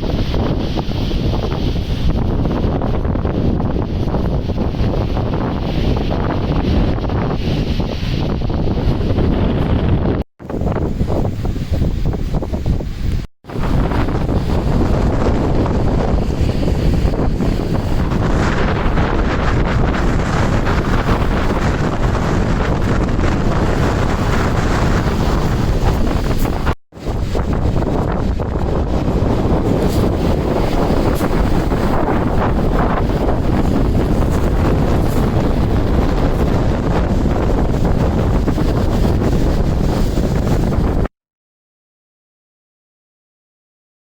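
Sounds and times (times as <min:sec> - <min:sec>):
wind buffeting microphone: 0:00.0 - 0:41.1.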